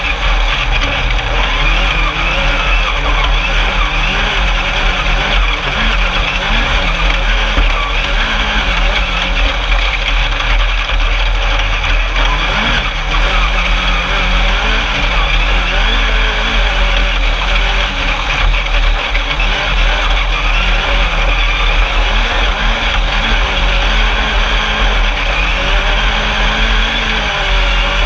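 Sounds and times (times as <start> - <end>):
loud rushing noise: 0.0 - 28.0
race buggy engine revving: 0.0 - 28.0.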